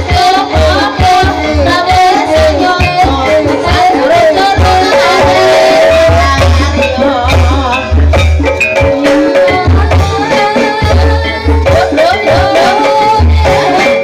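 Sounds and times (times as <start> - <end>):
pounding drums: 0.0 - 14.0
sharp struck percussion: 0.0 - 14.0
wavering melody line: 0.0 - 14.0.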